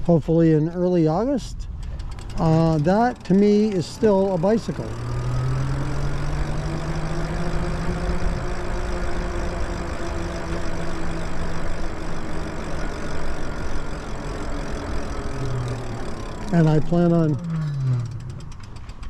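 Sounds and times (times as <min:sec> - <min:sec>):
electric bike motor whining: 0:00.0 - 0:19.0.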